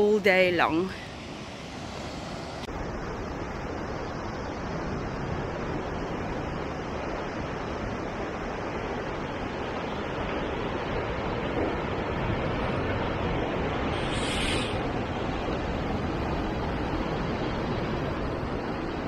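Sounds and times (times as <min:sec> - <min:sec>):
ocean surf on rocks: 0:00.0 - 0:19.0.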